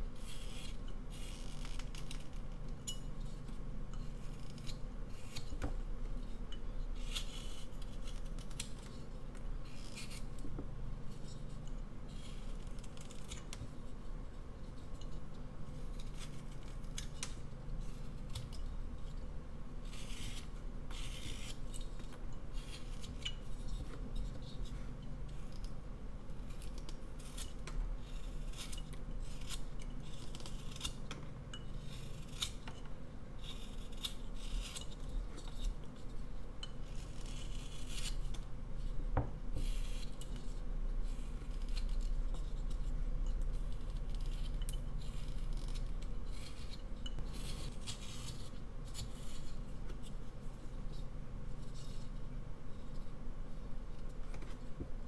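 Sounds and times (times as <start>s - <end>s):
knife carving wood: 0.1s - 53.2s.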